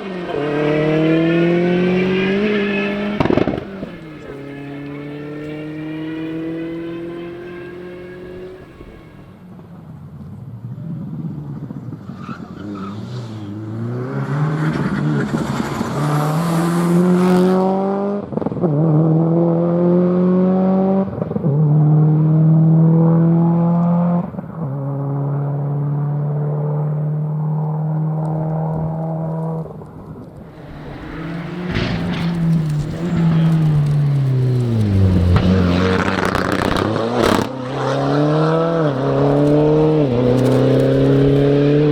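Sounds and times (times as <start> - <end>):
rally car accelerating: 0.0 - 9.7, 10.3 - 41.9
approaching car: 0.0 - 41.9.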